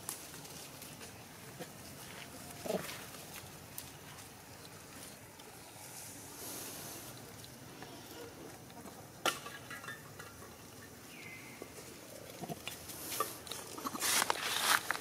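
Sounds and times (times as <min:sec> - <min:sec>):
rustling of dry leaves: 0:00.0 - 0:15.0.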